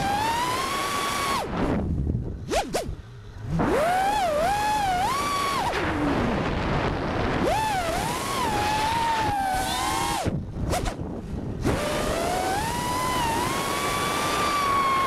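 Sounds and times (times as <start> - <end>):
quadcopter motors whining: 0.0 - 1.8, 2.4 - 11.0, 11.6 - 15.0
wind rush: 0.0 - 15.0.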